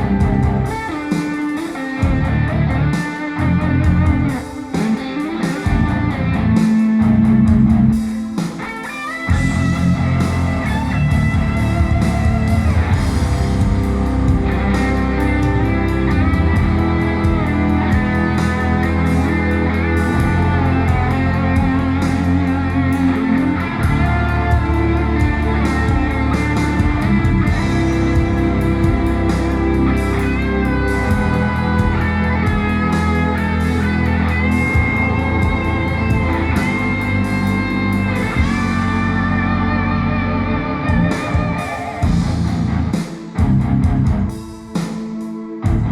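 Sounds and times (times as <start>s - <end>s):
guitar music with bass and drums: 0.0s - 45.9s.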